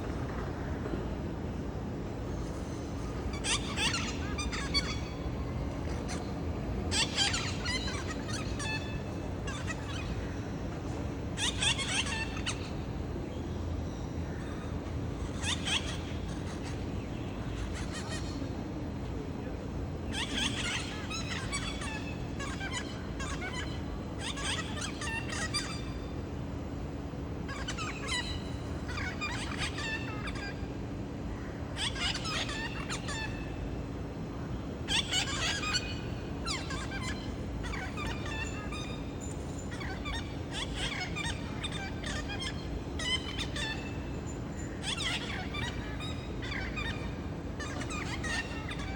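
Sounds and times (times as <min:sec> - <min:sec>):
parrots calling: 0:03.3 - 0:13.0, 0:14.2 - 0:18.6, 0:20.0 - 0:26.1, 0:26.8 - 0:33.8, 0:34.4 - 0:48.9.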